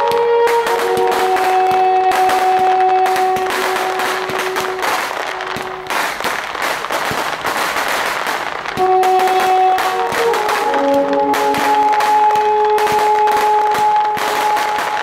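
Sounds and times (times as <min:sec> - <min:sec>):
music: 0:00.0 - 0:05.8, 0:08.8 - 0:15.0
fireworks crackling and popping: 0:00.0 - 0:15.0.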